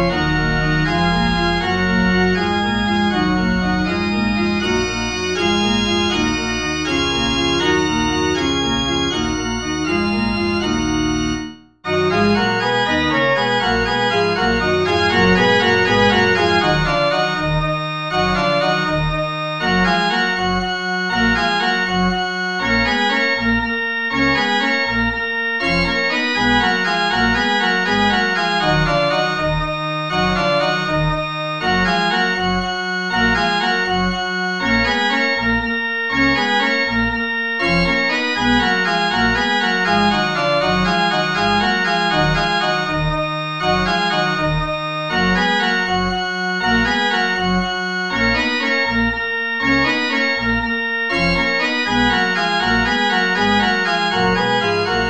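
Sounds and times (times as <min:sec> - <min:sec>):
detached organ bass notes: 0:00.0 - 0:55.0
organ playing a fugue: 0:00.0 - 0:55.0.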